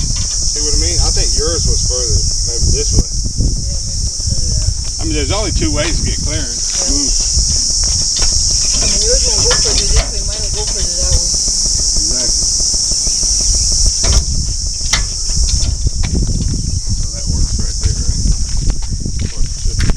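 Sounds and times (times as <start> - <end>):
high-pitched insect chorus: 0.0 - 19.9
wind rumble on microphone: 0.0 - 19.9.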